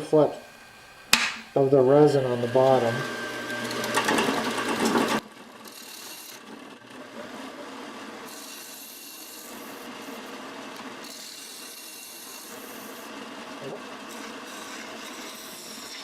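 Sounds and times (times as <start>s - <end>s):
lathe running: 0.0s - 16.0s
lathe tool scraping wood: 0.0s - 16.0s.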